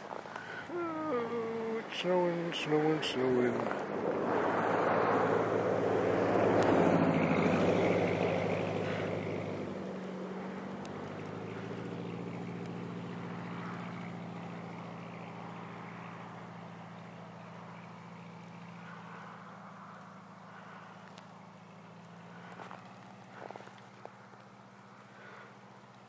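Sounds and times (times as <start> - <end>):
low engine hum: 0.0 - 26.0
vehicles rushing on snowy road: 0.0 - 26.0.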